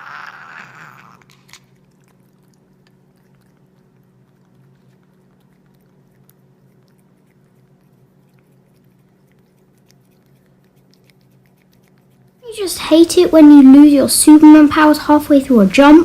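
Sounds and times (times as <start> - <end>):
steady low hum: 0.0 - 16.0
cat licking and chewing: 0.5 - 14.0.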